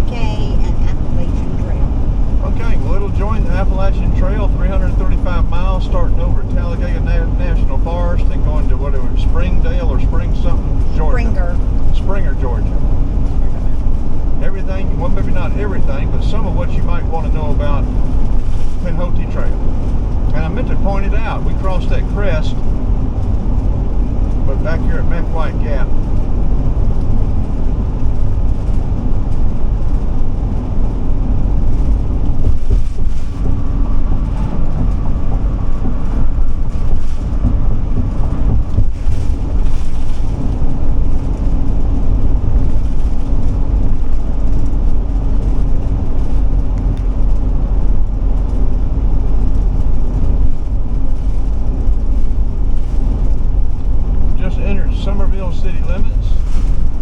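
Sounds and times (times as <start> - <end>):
engine and road noise drone: 0.0 - 57.0
low hum: 0.0 - 57.0
motorhome driving at highway speed: 0.0 - 57.0.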